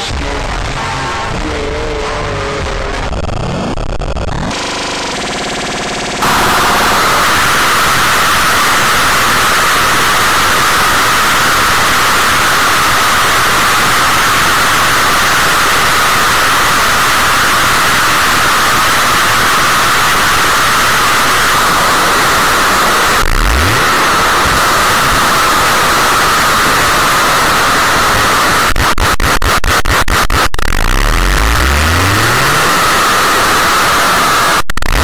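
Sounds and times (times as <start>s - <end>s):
harsh static noise music: 0.0s - 35.0s.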